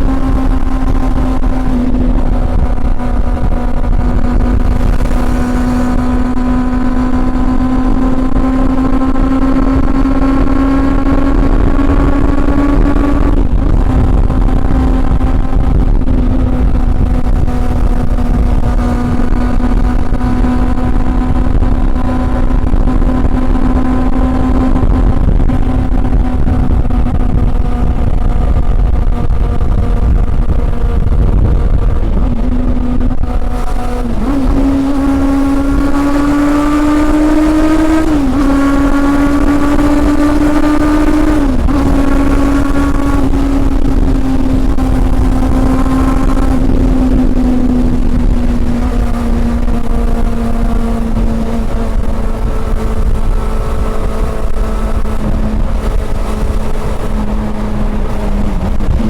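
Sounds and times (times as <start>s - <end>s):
motorcycle engine revving: 0.0s - 59.0s
wind rumble on microphone: 0.0s - 59.0s.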